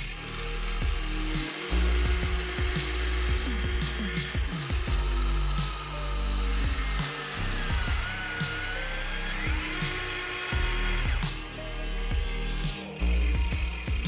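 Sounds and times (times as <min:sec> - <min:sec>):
background music: 0:00.0 - 0:14.0
toy excavator electric motors whining: 0:00.0 - 0:14.0.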